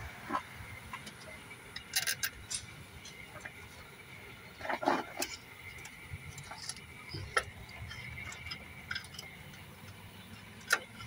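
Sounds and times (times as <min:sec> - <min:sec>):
small clicks of engine parts: 0:00.9 - 0:03.8, 0:04.6 - 0:11.0.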